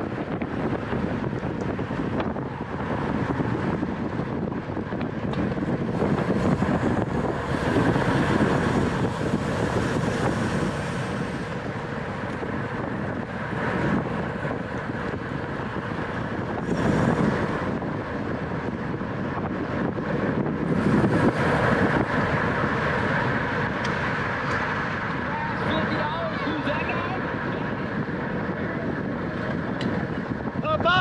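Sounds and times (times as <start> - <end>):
road and bicycle noise: 0.0 - 31.0
wind rushing over microphone: 0.0 - 31.0.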